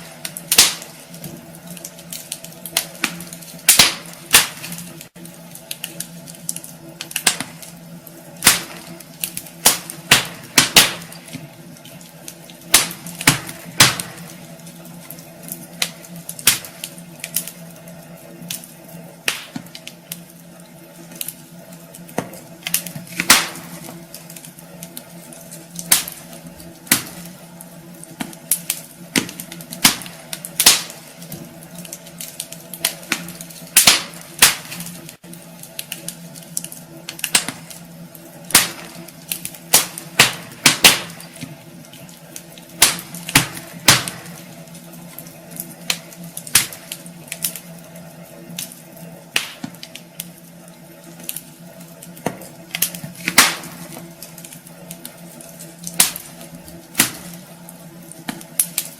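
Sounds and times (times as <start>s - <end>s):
low steady hum: 0.0s - 58.9s
wood fire crackling and popping: 0.0s - 58.9s.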